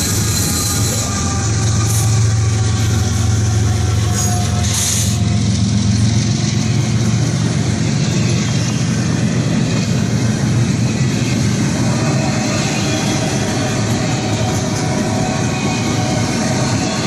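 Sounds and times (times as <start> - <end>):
diesel locomotive engines rumbling: 0.0 - 17.0
wheel and rail noise: 0.0 - 17.0.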